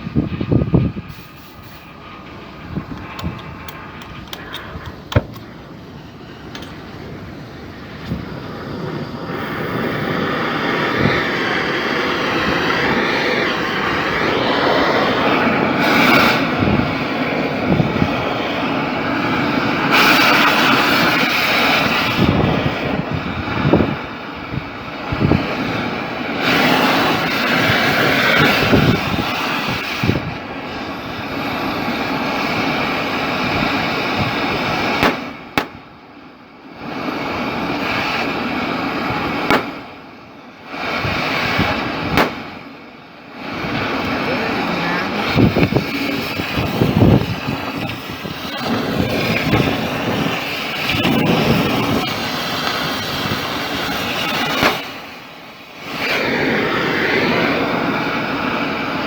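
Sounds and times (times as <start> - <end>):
gas cutting torch hissing: 0.0 - 59.0.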